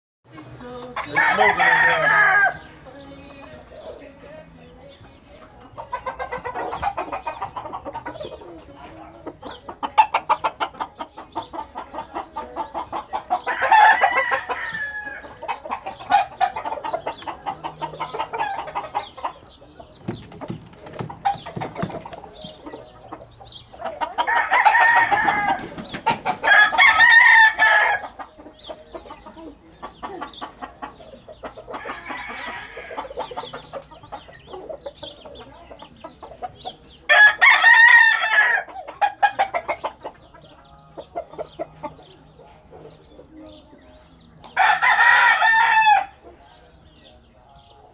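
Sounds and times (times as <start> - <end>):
roosters crowing: 0.3 - 43.6, 44.4 - 47.3
chickens clucking: 0.3 - 47.9.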